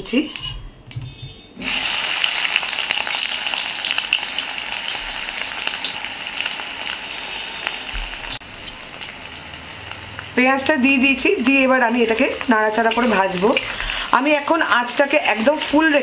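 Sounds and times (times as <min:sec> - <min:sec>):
onions sizzling in hot oil: 0:01.6 - 0:16.0.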